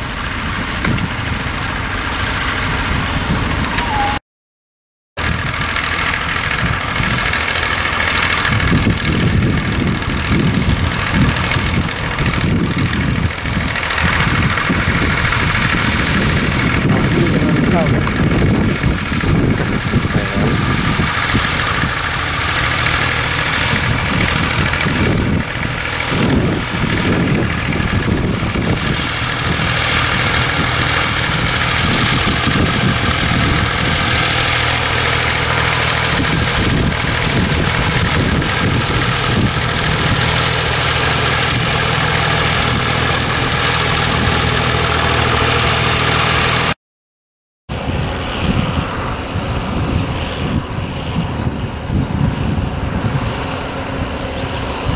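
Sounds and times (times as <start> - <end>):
tractor engine running: 0.0 - 4.2, 5.2 - 46.8, 47.7 - 54.9.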